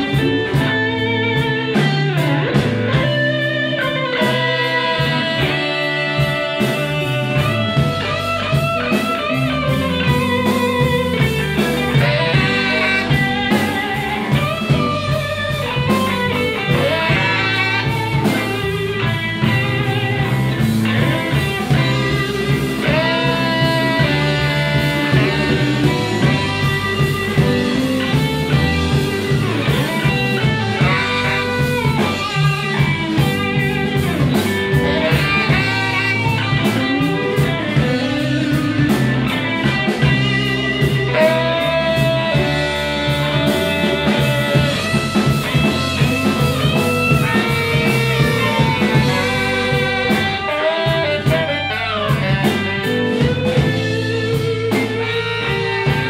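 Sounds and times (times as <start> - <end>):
bass: 0.0 - 56.0
drums: 0.0 - 56.0
electric guitar lead: 0.0 - 56.0
saxophone: 0.0 - 56.0.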